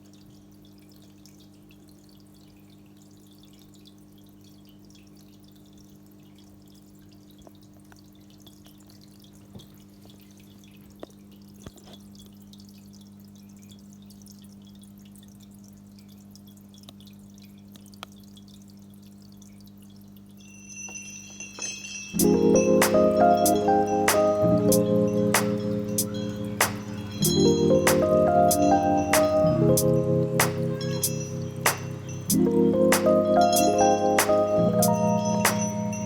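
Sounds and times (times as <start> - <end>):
fizzing crackle: 0.0 - 36.0
water trickling and dripping: 0.0 - 36.0.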